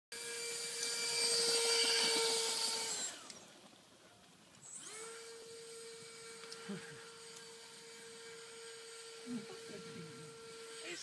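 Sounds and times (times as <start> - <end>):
electric fan whining: 0.2 - 11.0.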